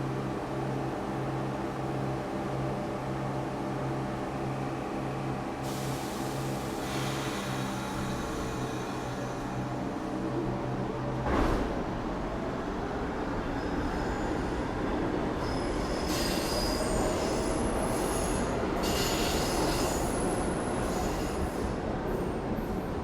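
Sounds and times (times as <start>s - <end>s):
subway train rumbling on rails: 0.0s - 23.0s.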